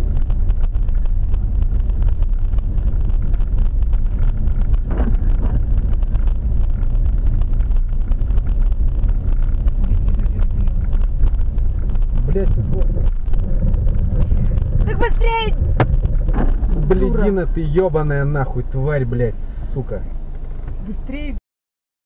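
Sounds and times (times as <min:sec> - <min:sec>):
wind buffeting microphone: 0:00.0 - 0:18.9
vehicle road and engine rumble: 0:00.0 - 0:21.4.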